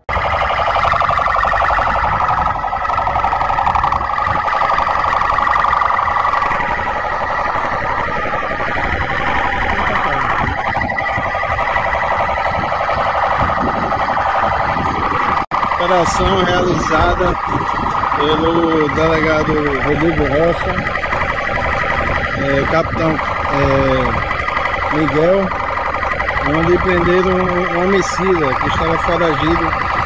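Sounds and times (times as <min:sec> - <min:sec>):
police siren pulsing: 0:00.0 - 0:30.0
vehicle engine and road rumble: 0:00.0 - 0:30.0.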